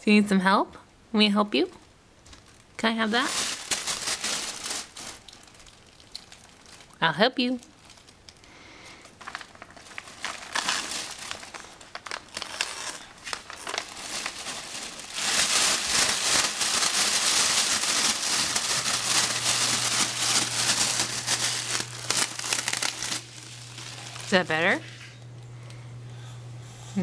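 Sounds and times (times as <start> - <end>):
plastic film crinkling: 2.2 - 25.4.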